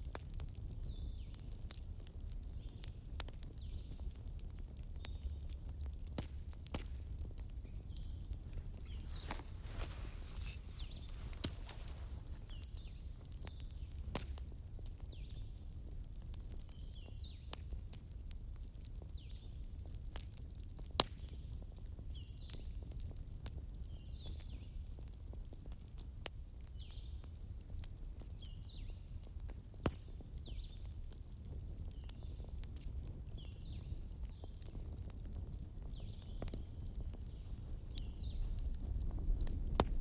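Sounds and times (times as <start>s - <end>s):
wood fire crackling: 0.0s - 23.7s, 29.1s - 40.0s.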